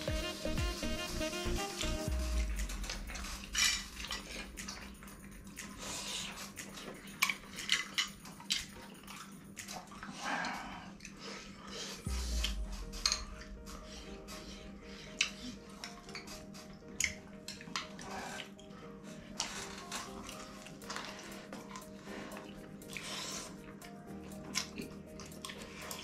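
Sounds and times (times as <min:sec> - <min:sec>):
background music: 0:00.0 - 0:09.6, 0:12.0 - 0:26.0.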